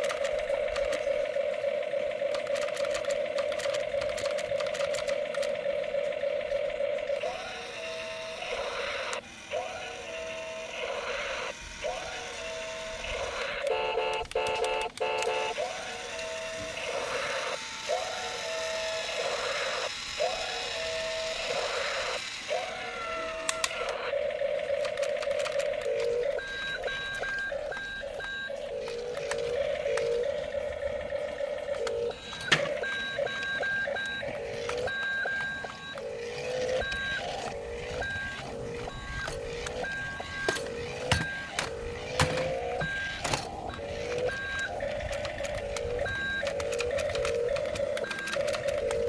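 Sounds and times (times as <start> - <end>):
steady buzzing tone: 0.0 - 49.0
toy electronic beeping tones: 0.0 - 49.0.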